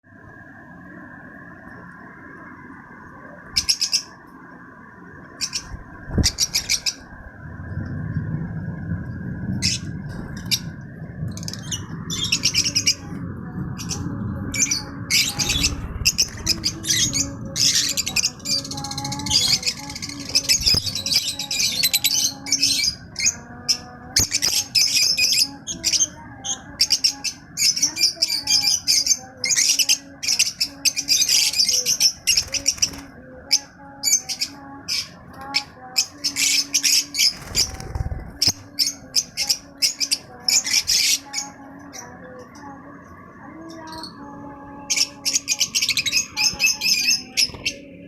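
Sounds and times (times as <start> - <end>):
faint low hum: 0.0 - 48.0
small birds chirping: 3.4 - 4.2, 5.3 - 7.2, 9.5 - 48.0.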